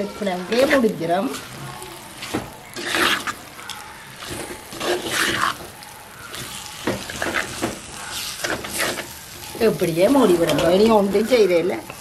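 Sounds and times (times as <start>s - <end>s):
fat sizzling in oil: 0.0s - 12.0s.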